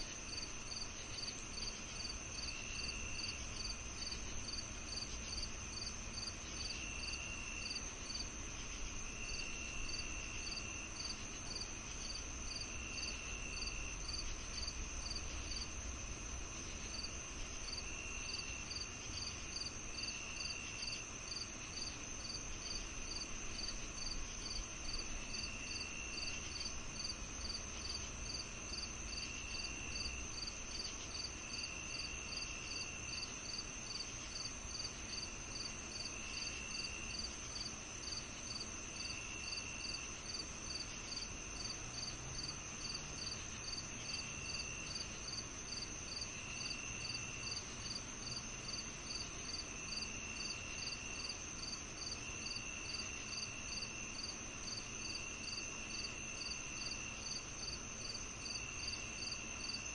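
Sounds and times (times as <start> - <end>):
cricket chirps: 0.0 - 59.9
high insect trill: 0.0 - 59.9.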